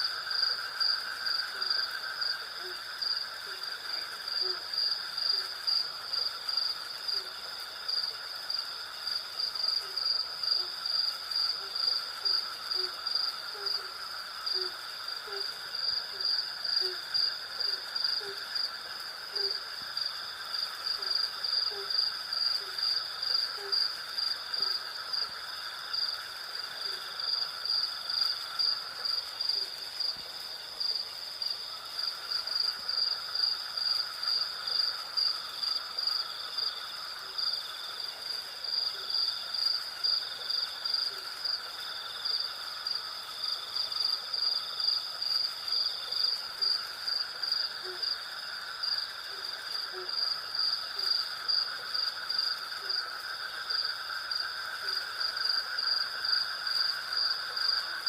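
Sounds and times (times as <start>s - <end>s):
crickets and cicadas trilling: 0.0s - 58.0s.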